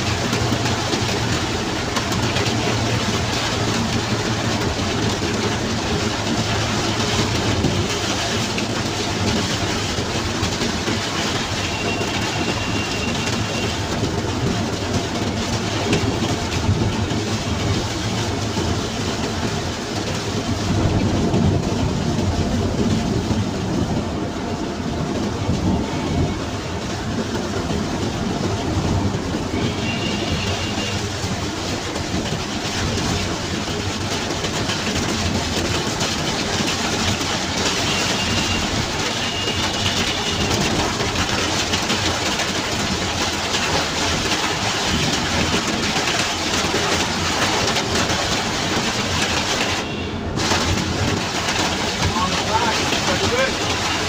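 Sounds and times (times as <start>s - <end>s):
engine: 0.0s - 54.0s
rain on car body: 0.0s - 54.0s
tyres on wet road: 0.0s - 54.0s.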